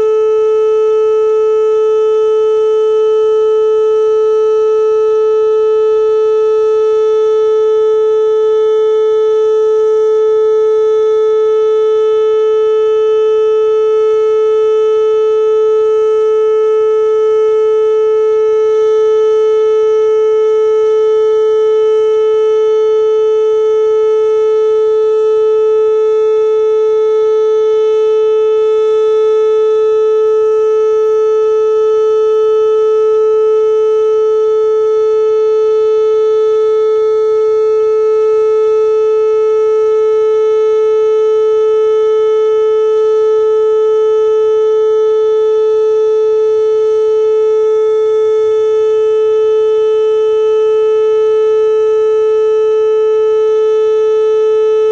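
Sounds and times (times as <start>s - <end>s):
steady warning siren tone: 0.0s - 54.9s.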